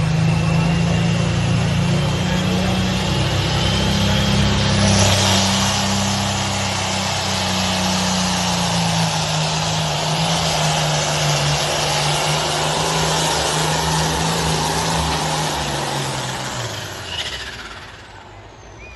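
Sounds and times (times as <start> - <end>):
rushing exhaust noise: 0.0 - 18.9
tractor diesel engine running: 0.0 - 18.9.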